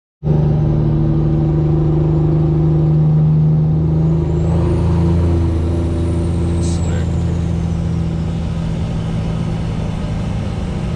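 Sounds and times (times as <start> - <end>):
vehicle engine running: 0.2 - 10.9.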